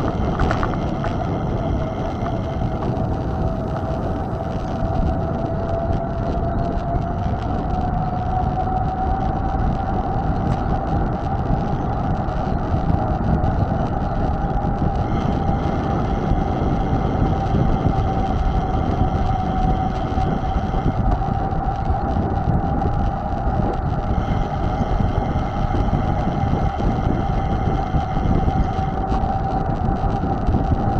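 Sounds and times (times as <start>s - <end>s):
bike tyres rolling: 0.0s - 30.9s
high whine: 0.0s - 30.9s
wind: 0.0s - 30.9s.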